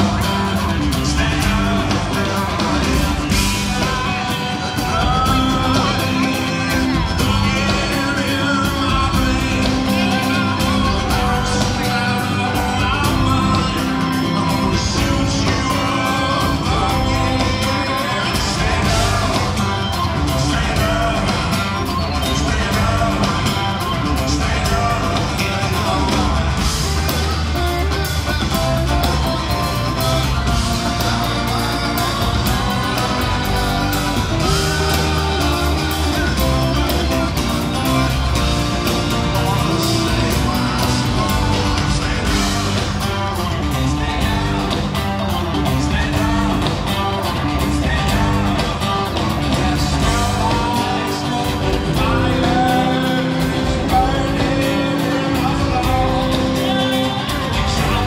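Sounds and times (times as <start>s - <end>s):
acoustic guitar: 0.0s - 58.0s
live rock band playing: 0.0s - 58.0s
man singing: 0.0s - 58.0s.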